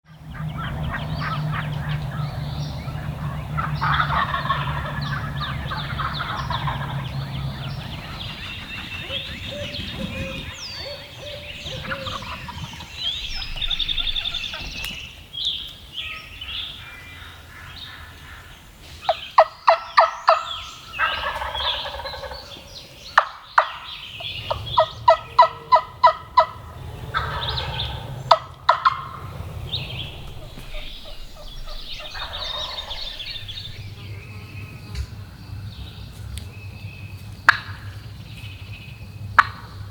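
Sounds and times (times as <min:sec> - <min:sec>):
wild turkeys calling: 0:00.1 - 0:34.2, 0:39.4 - 0:39.9
faint bird calls: 0:00.1 - 0:35.2.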